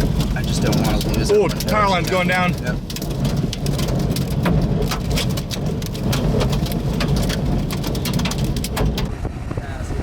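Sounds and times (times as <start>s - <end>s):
rain striking vehicle: 0.0s - 9.2s
low rumble of storm wind: 0.0s - 10.0s.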